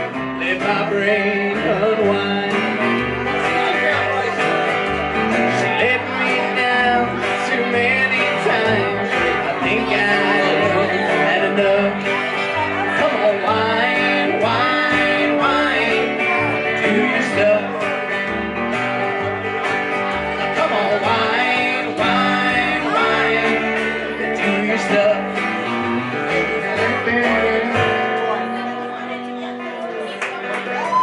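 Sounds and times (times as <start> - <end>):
electric guitar lead: 0.0 - 31.0
strummed acoustic guitar: 0.0 - 31.0
upright bass: 0.0 - 31.0.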